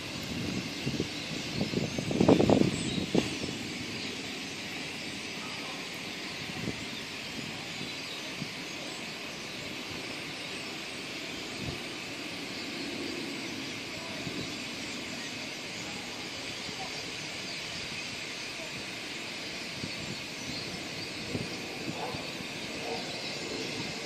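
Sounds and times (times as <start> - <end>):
flock of birds chirping: 0.0 - 24.0.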